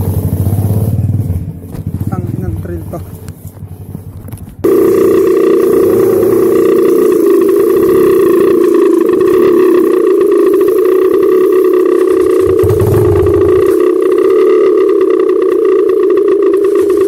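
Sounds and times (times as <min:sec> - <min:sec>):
dirt bike engine at high revs: 0:00.0 - 0:17.0.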